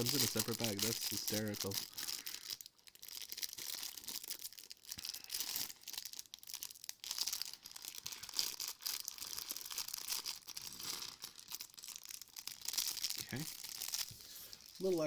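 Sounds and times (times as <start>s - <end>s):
plastic bags crinkling and tearing: 0.0s - 15.0s.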